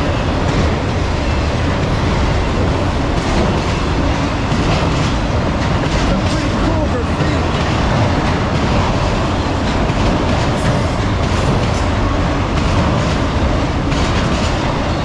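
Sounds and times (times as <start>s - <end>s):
steel wheels rumbling on rails: 0.0s - 15.0s
wheels clacking over rail joints: 0.0s - 15.0s.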